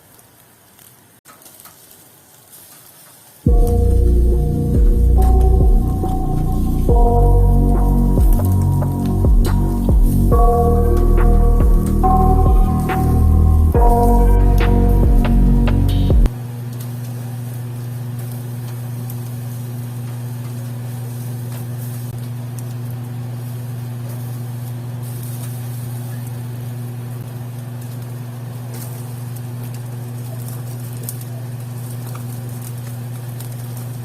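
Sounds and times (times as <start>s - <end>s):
fish sizzling on a grill: 0.0s - 34.0s
steady low hum: 3.5s - 34.0s.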